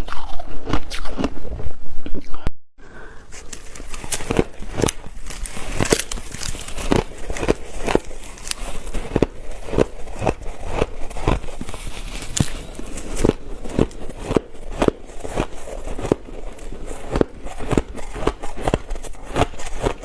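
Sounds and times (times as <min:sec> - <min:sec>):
ice crunching while chewed: 0:00.0 - 0:02.3, 0:03.0 - 0:20.0.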